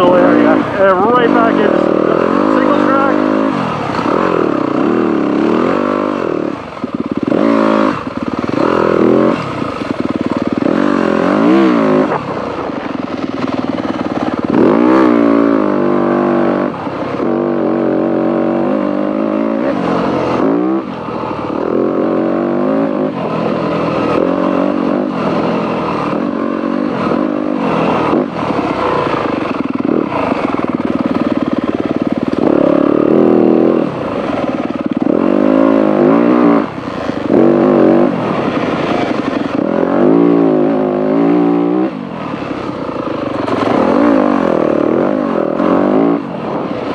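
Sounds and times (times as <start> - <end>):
dirt bike engine revving: 0.0 - 46.9
clatter: 1.8 - 17.6, 18.7 - 46.9.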